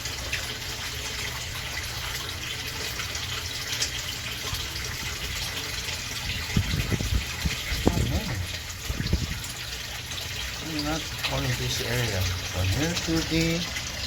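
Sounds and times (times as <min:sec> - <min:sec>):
splashing running water: 0:00.0 - 0:14.0.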